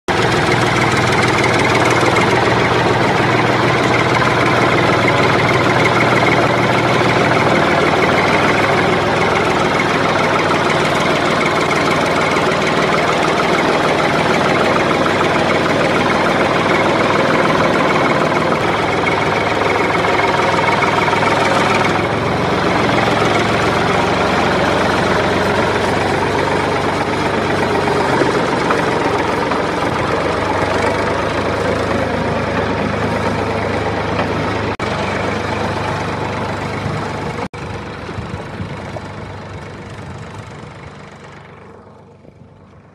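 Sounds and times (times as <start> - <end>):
tractor engine idling: 0.1 - 42.9.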